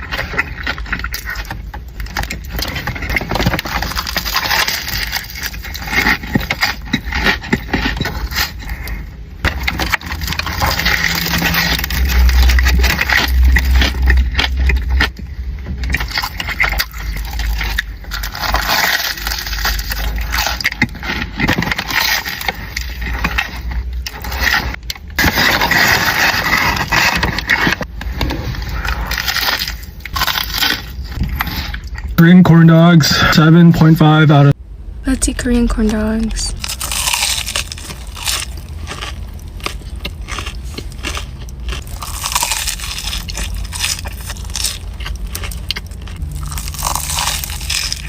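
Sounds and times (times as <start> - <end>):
crunchy food eating: 0.0 - 15.2, 15.8 - 32.2, 36.6 - 48.0.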